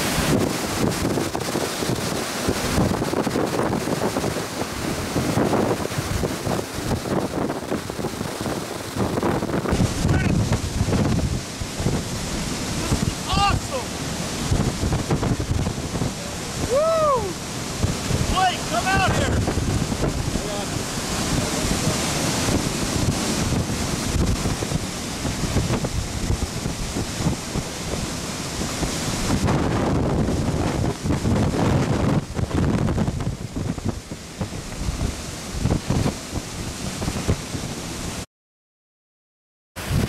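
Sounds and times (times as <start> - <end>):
heavy wind-driven rain: 0.0 - 38.3, 39.8 - 40.0
hurricane wind blasting microphone: 0.0 - 38.3, 39.8 - 40.0.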